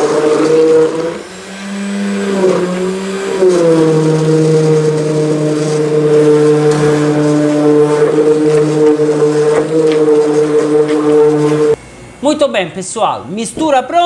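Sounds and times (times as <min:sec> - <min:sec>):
immersion blender motor humming: 0:00.0 - 0:11.8.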